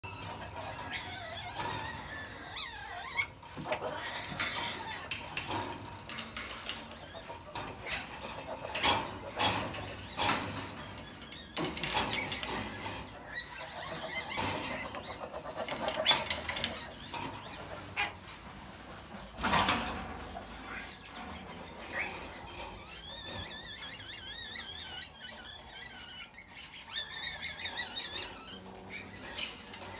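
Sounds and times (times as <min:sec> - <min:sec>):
wire-mesh cage rattling: 0:00.0 - 0:29.9.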